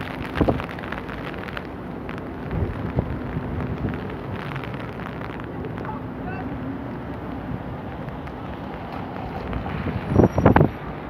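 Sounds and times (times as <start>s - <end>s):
rain falling: 0.0s - 11.0s
wind buffeting microphone: 0.0s - 11.0s.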